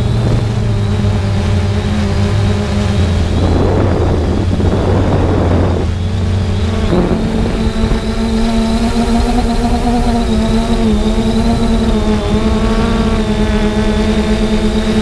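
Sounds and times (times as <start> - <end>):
drone propellers humming: 0.0 - 15.0
wind noise: 0.0 - 15.0.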